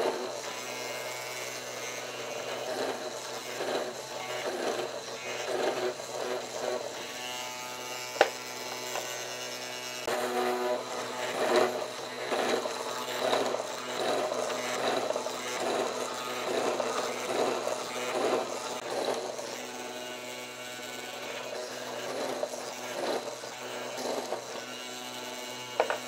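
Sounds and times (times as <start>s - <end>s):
power tool motor buzzing: 0.0s - 26.0s.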